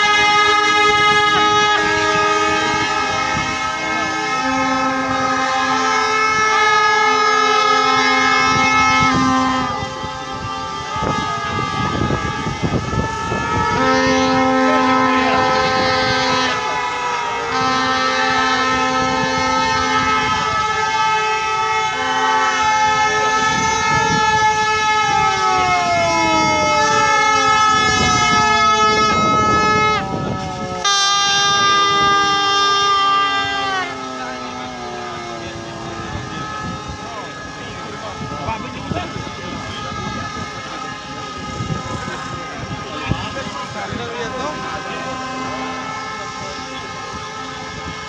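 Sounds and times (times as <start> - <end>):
crowd walking and calling: 0.0 - 48.0
horns blowing long blasts: 0.0 - 48.0.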